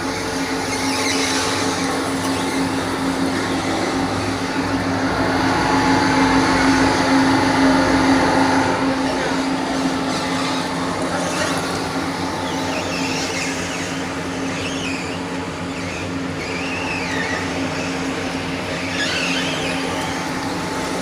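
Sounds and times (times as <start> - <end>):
oil press machine humming: 0.0 - 21.0.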